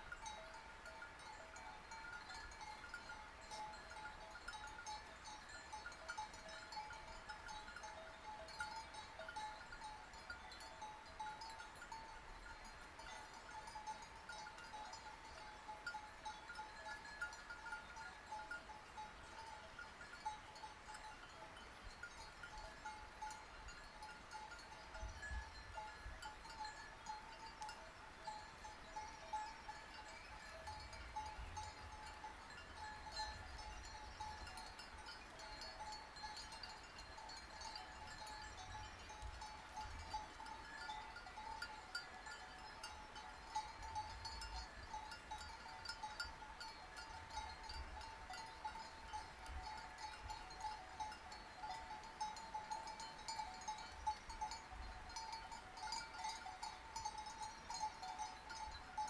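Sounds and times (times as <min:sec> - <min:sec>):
sheep bells clanking: 0:00.0 - 0:59.0.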